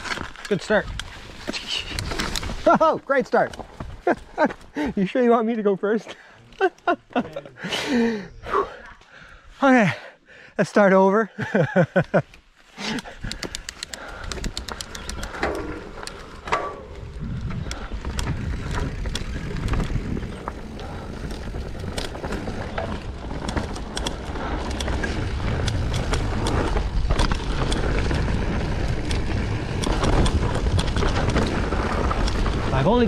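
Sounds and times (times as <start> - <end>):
bike clicks and rattles: 0.0 - 5.0, 6.4 - 8.0, 11.5 - 33.0
bike rolling on dirt trail: 0.0 - 8.3, 11.4 - 33.0.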